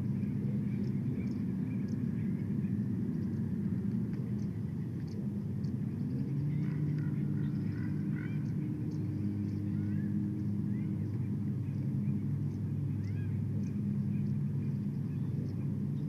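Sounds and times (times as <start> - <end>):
low engine-like drone: 0.0 - 16.0
small birds chirping: 0.0 - 16.0.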